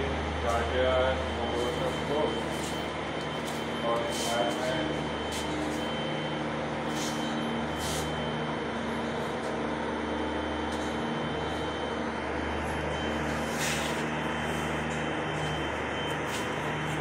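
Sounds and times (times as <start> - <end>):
high whine: 0.0 - 17.0
machinery drone: 0.0 - 17.0.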